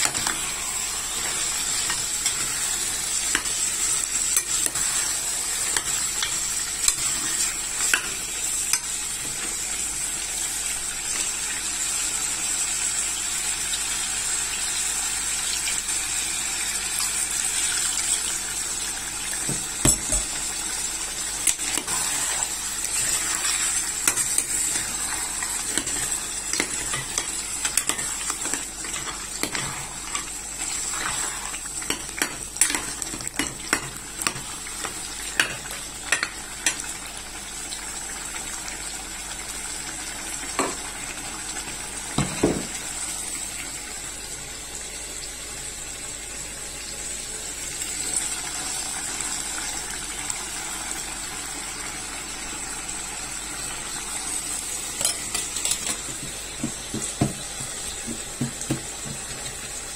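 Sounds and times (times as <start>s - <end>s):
soup sizzling in a pot: 0.0s - 59.9s.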